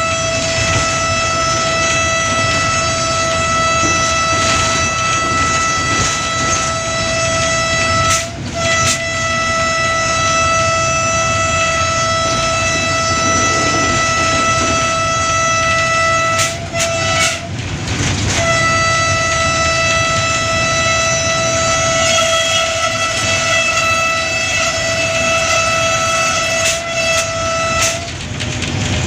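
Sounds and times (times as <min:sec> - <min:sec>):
locomotive horn blasts: 0:00.0 - 0:28.4
train rumbling and clattering: 0:00.0 - 0:29.0.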